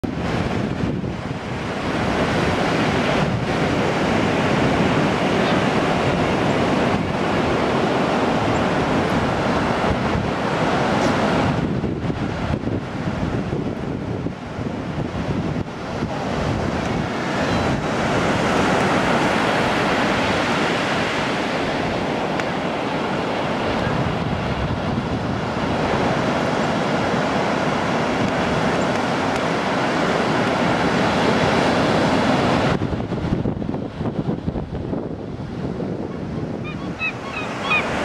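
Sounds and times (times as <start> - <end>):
surf breaking on shore: 0.0 - 38.0
wind buffeting microphone: 0.0 - 38.0.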